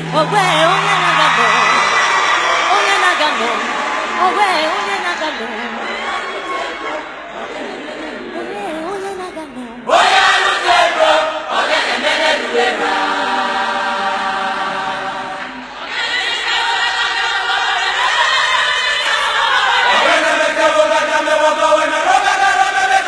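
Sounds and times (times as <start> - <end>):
group singing gospel: 0.0 - 23.0.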